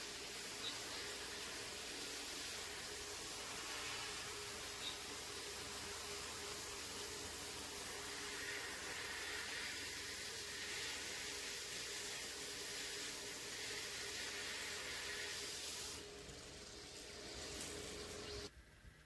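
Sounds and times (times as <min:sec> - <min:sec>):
air nozzle hissing: 0:00.0 - 0:16.0.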